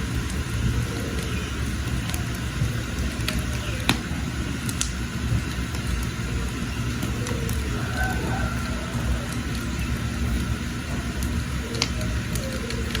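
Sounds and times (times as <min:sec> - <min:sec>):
fire crackling and popping: 0:00.0 - 0:13.0
wood fire rumbling: 0:00.0 - 0:13.0.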